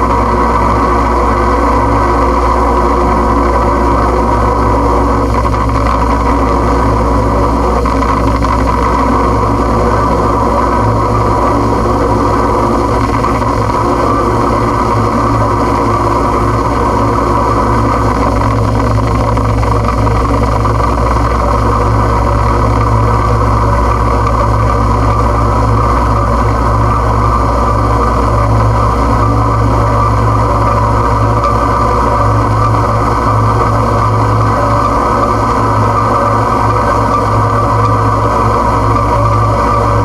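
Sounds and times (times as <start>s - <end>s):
steady low hum: 0.0s - 40.0s
thick droning hiss: 0.0s - 40.0s.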